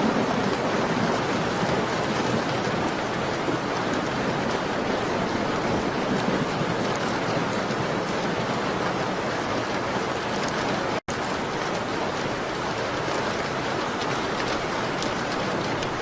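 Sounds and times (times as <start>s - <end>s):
rain on a window: 0.0s - 16.0s.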